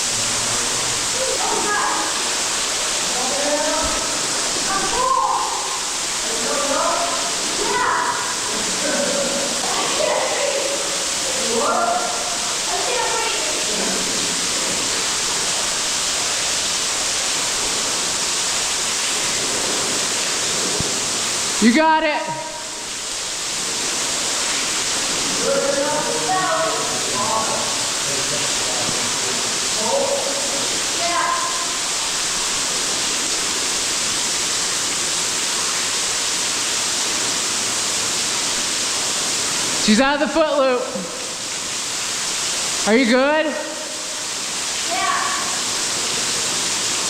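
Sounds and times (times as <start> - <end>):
waterfall roaring in a cave: 0.0 - 47.0.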